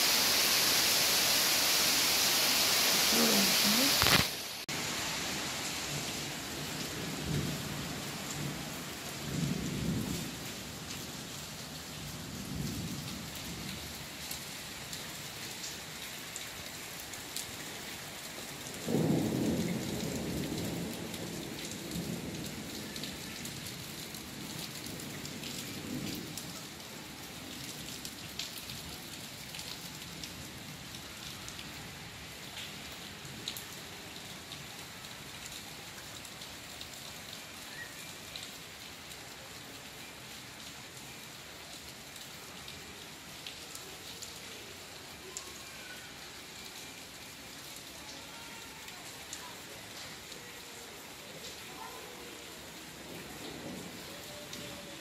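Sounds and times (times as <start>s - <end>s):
steady rain: 0.0s - 55.0s
raindrops ticking on hard surfaces: 2.6s - 55.0s.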